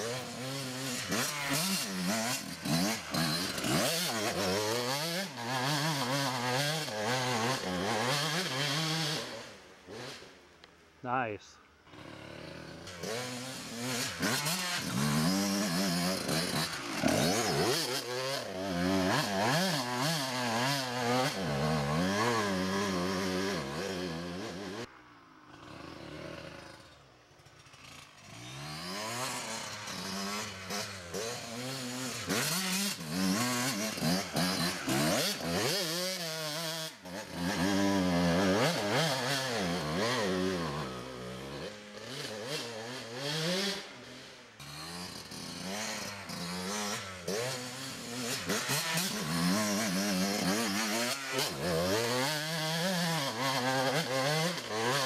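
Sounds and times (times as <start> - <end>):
dirt bike engine revving hard: 0.0 - 10.4, 11.9 - 55.0.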